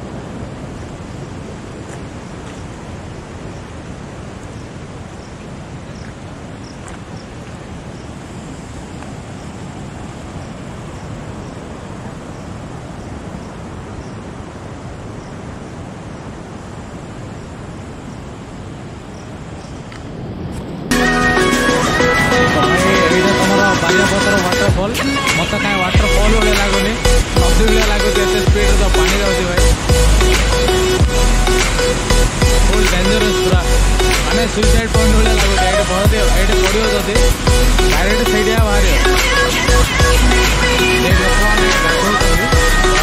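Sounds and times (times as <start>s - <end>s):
steady rushing noise: 0.0s - 43.0s.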